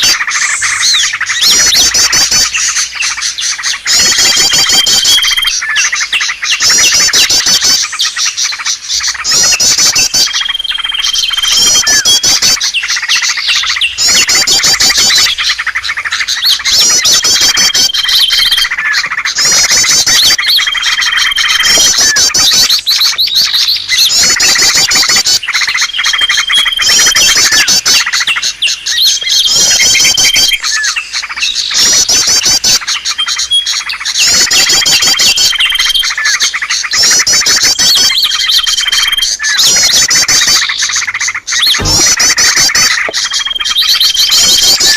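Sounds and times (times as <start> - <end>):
chorus of small birds chirping: 0.0 - 44.9.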